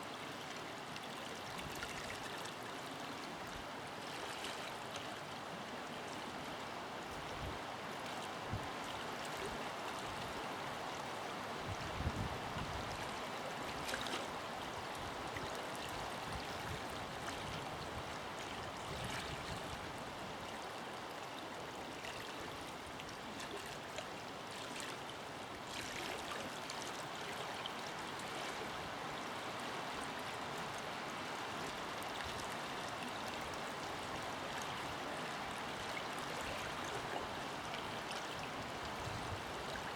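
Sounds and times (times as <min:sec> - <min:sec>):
river running water: 0:00.0 - 0:39.9.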